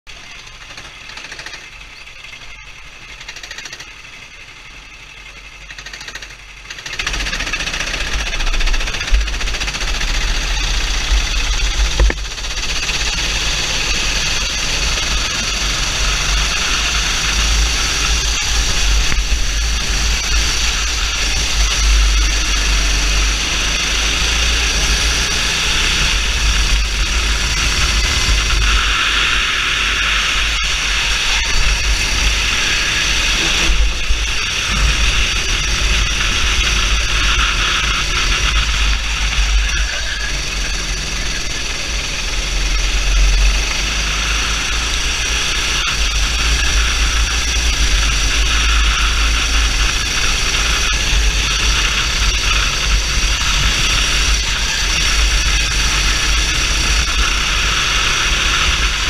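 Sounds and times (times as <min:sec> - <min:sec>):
kart engines running: 0:00.1 - 0:59.0.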